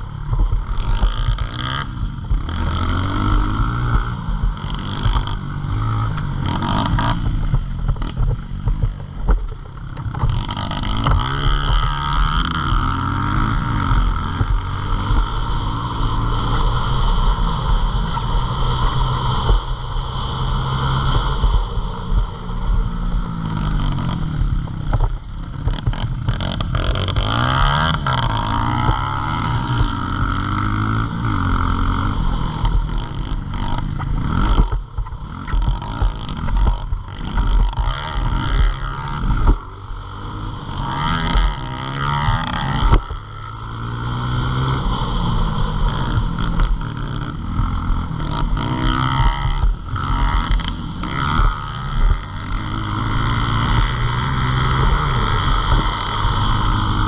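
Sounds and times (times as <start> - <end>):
pit bike engine revving: 0.0 - 57.0.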